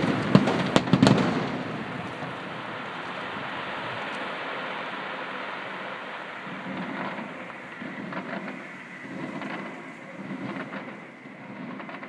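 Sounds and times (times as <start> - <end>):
fireworks crackling hiss: 0.0 - 12.0
sharp fireworks pops: 0.0 - 12.0
low rumble: 1.5 - 12.0.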